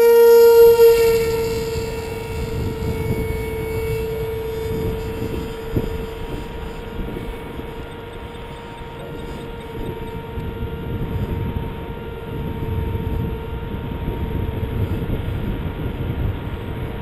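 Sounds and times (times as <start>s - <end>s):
electric motor propeller whine: 0.0s - 17.0s
low wind rumble: 0.0s - 17.0s.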